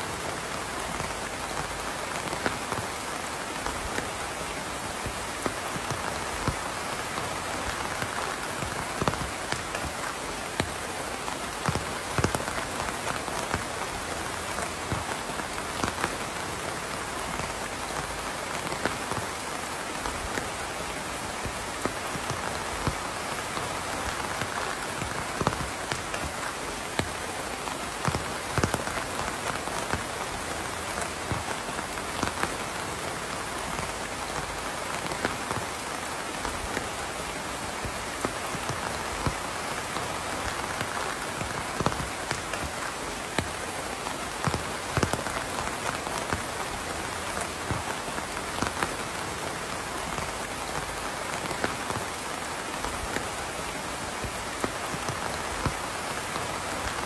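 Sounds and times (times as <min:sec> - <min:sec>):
raindrops pattering on a surface: 0:00.0 - 0:57.0
steady rain hiss: 0:00.0 - 0:57.0.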